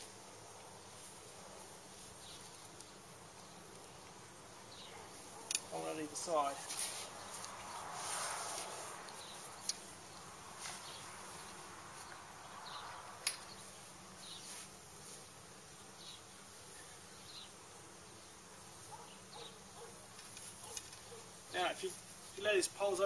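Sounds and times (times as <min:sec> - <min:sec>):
insects buzzing and chirping: 0:00.0 - 0:23.0.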